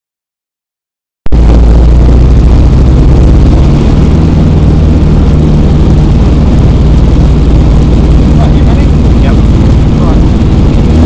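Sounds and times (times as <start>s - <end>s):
microlight engine and propeller: 1.3s - 11.0s.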